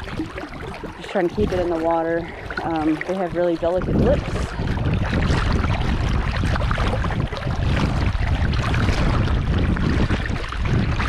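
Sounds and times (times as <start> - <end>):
sea water washing: 0.0 - 11.0
wind buffeting microphone: 0.0 - 11.0.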